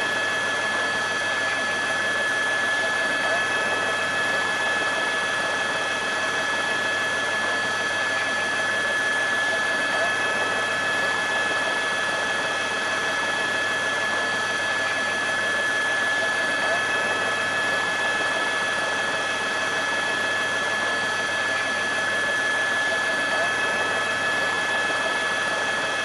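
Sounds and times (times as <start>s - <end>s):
aircraft engine whine: 0.0s - 26.0s.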